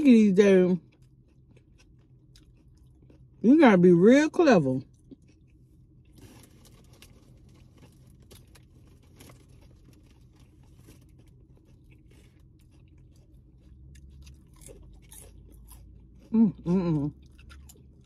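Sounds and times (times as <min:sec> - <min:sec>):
low steady hum: 0:00.0 - 0:18.0
chewing food: 0:00.7 - 0:03.4, 0:04.7 - 0:18.0.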